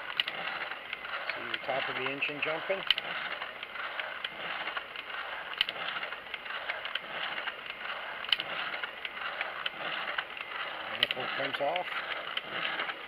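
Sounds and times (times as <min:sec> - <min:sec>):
plastic engine model whirring and rattling: 0:00.0 - 0:13.0
plastic rubbing: 0:00.0 - 0:13.0.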